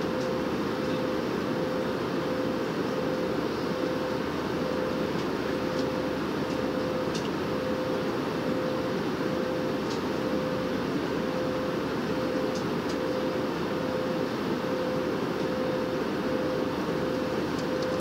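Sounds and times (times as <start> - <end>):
jet engines and airflow rushing: 0.0 - 18.0
steady hum: 0.0 - 18.0.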